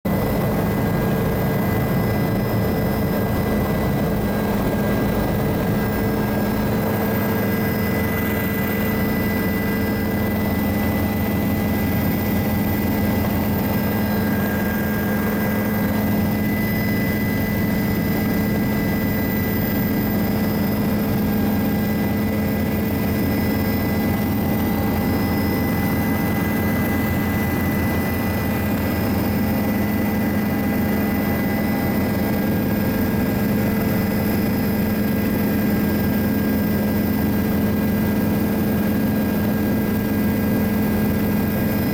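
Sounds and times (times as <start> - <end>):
helicopter engine and rotor noise: 0.1 - 41.9
steady whine: 0.1 - 41.9.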